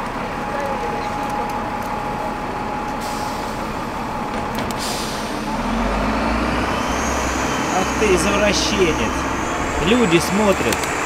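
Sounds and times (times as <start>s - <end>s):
city street traffic: 0.0s - 11.0s
heavy vehicle engine rumble: 0.0s - 11.0s.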